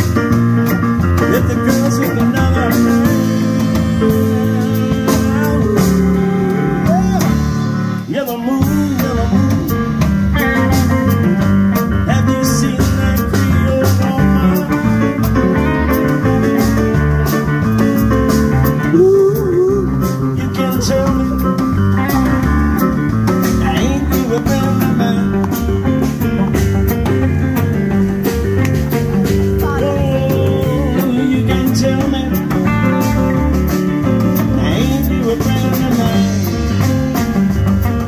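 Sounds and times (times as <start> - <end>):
blues band playing: 0.0 - 38.0
electric upright bass: 0.0 - 38.0
stage piano: 0.0 - 38.0.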